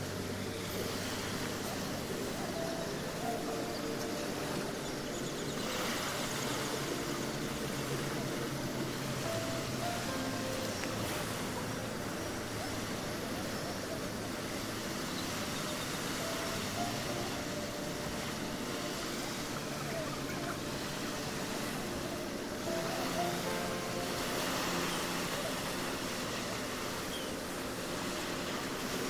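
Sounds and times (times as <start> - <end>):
small waves washing on shore: 0.0 - 29.0.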